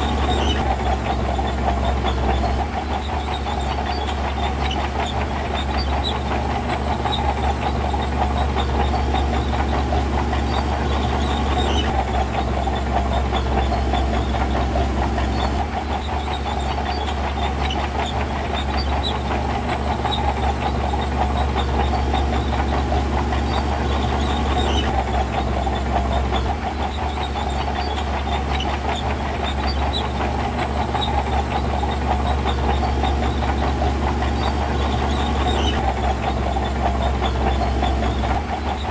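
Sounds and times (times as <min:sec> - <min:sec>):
diesel machinery engine under load: 0:00.0 - 0:38.9.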